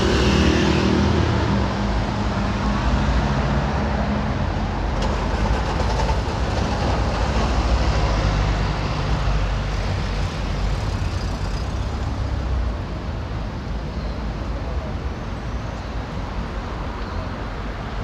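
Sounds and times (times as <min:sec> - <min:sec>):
bus engine droning: 0:00.0 - 0:15.3
street traffic noise: 0:00.0 - 0:18.0.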